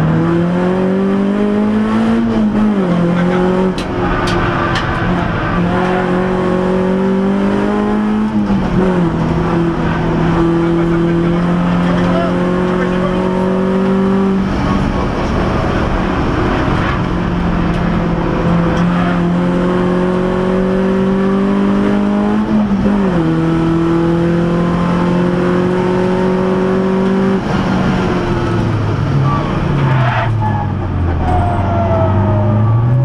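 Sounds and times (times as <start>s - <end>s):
car engine under full throttle: 0.0s - 33.0s.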